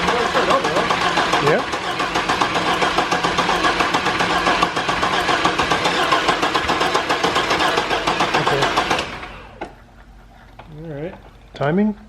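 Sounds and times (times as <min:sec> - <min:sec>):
engine cranking without starting: 0:00.0 - 0:11.5.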